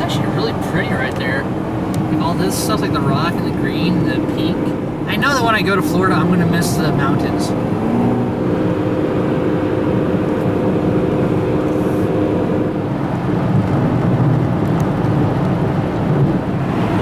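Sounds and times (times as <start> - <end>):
tyre and wind rumble: 0.0 - 17.0.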